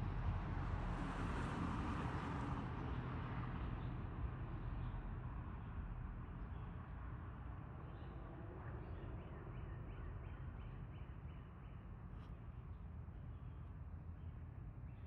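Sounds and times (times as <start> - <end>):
low outdoor background: 0.0 - 15.0.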